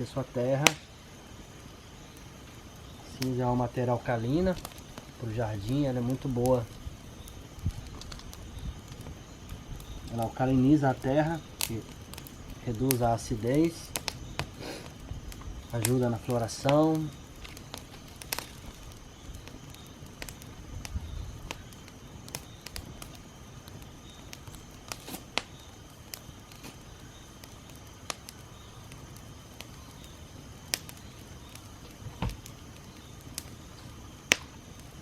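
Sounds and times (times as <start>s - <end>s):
campfire crackling: 0.0s - 35.0s
sharp fire pops: 0.0s - 35.0s.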